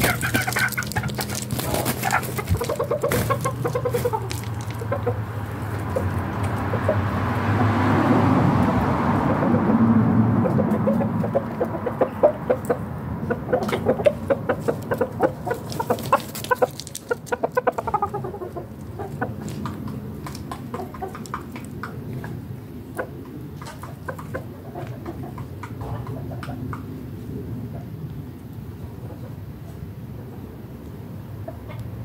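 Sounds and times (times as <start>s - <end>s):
rooster clucking: 0.0s - 8.0s, 9.2s - 27.0s, 31.3s - 32.0s.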